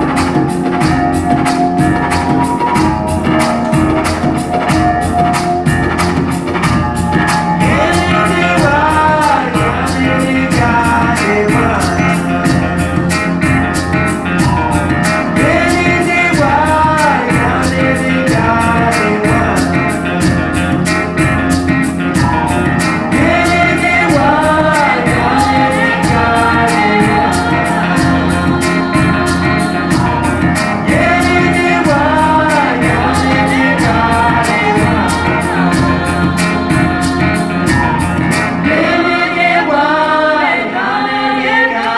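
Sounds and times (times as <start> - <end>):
music with singing over a beat: 0.0 - 41.9.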